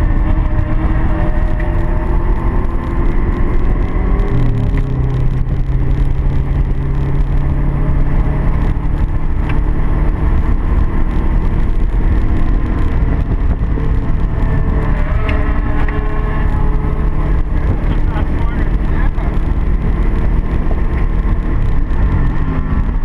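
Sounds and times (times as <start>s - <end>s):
car engine running: 0.0s - 23.0s
road and wind rumble: 0.0s - 23.0s.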